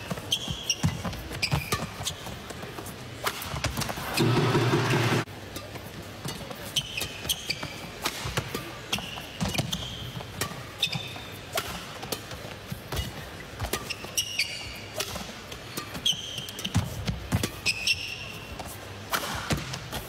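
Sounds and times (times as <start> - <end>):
shoes squeaking on court: 0.0 - 20.0.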